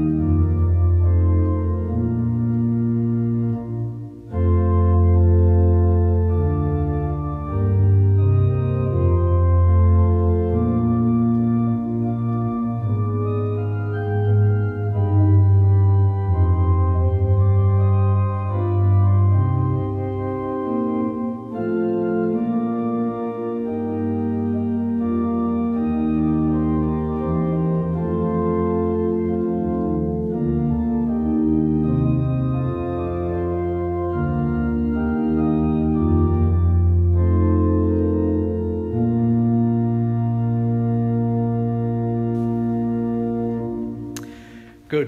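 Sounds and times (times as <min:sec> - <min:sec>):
organ chords: 0:00.0 - 0:45.0.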